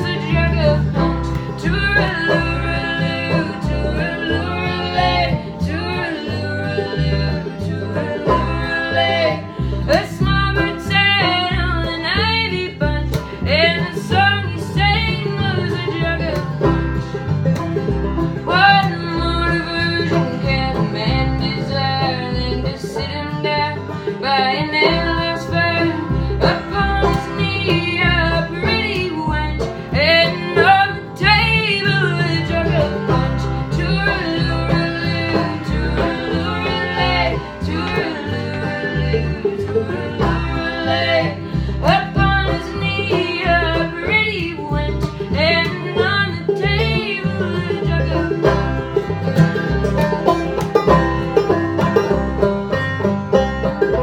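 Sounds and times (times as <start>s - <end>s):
person singing: 0.0s - 16.5s, 18.5s - 48.6s
acoustic guitar: 0.0s - 54.0s
banjo: 0.0s - 54.0s
bass: 0.0s - 54.0s.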